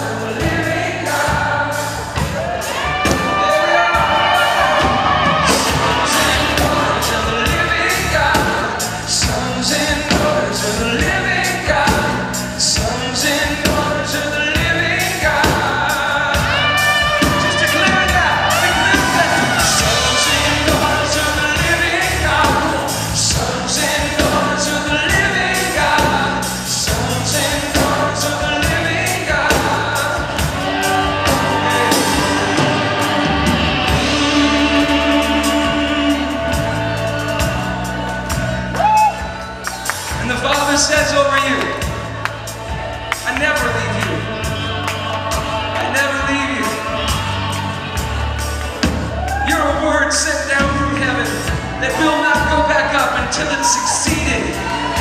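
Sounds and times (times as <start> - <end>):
lead vocal singing: 0.0 - 55.0
live band playing: 0.0 - 55.0.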